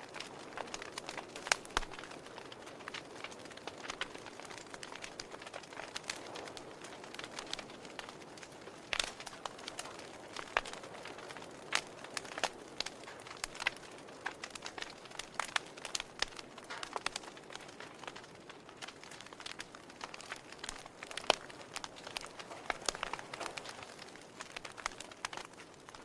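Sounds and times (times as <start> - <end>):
wood fire crackling: 0.0 - 26.0
sharp pops and snaps: 0.1 - 26.0.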